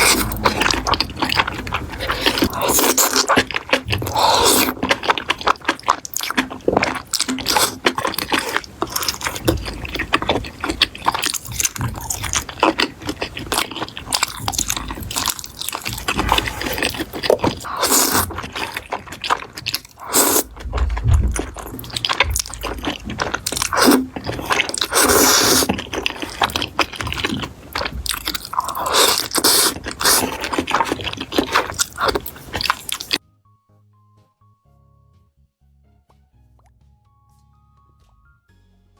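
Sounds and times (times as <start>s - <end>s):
crunchy chewing: 0.0s - 33.2s.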